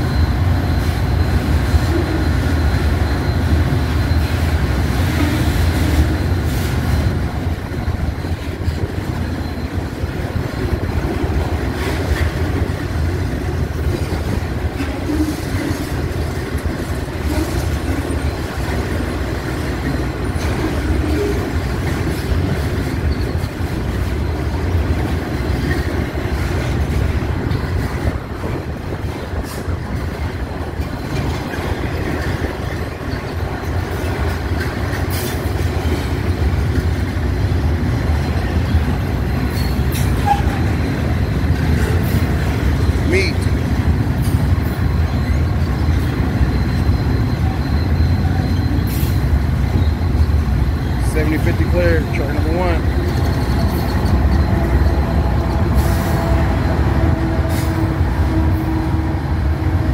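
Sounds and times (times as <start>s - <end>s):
freight cars rumbling on rails: 0.0s - 59.9s.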